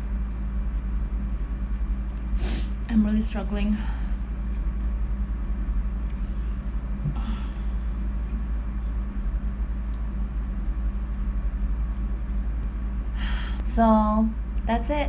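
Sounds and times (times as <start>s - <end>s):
faint hum: 0.0s - 15.0s
low background rumble: 0.0s - 15.0s.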